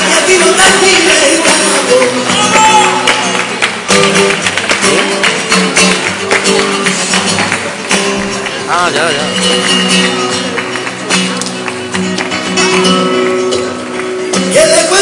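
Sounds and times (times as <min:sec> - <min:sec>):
flamenco guitar: 0:00.0 - 0:15.0
rhythmic hand-clapping: 0:00.0 - 0:15.0.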